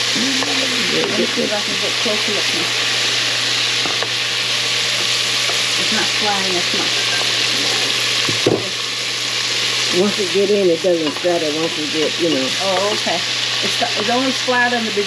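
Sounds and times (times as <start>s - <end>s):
livers sizzling in hot oil: 0.0s - 15.0s.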